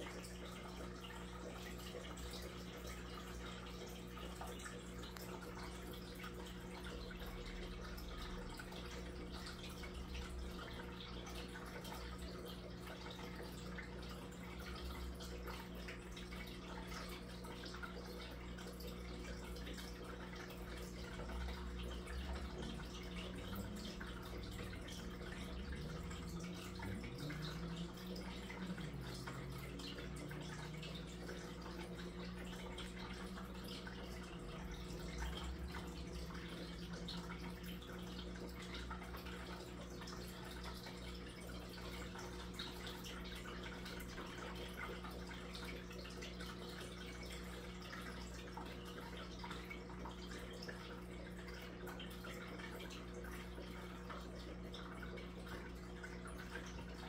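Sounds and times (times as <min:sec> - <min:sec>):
steady low hum: 0:00.0 - 0:46.3
aquarium filter trickling water: 0:00.0 - 0:57.0.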